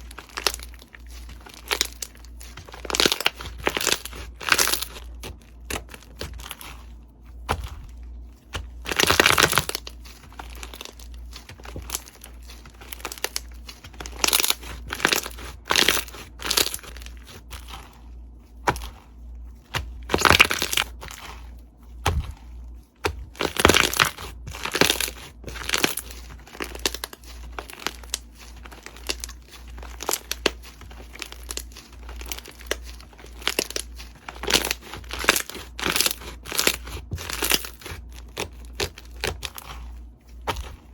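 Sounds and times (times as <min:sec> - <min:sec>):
crunchy slime crackling: 0:00.0 - 0:40.9.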